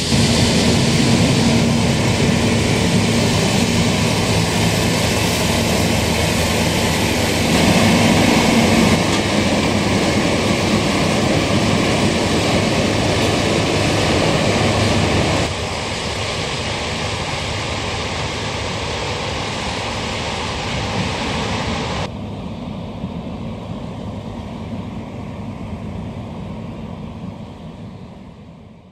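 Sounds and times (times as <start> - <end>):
heavy machinery diesel drone: 0.0 - 28.9.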